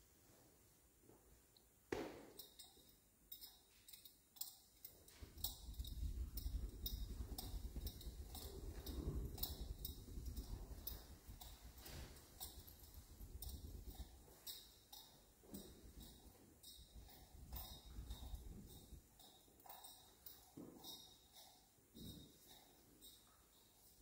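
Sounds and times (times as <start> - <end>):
faint light clicks and ticks: 2.4 - 23.9.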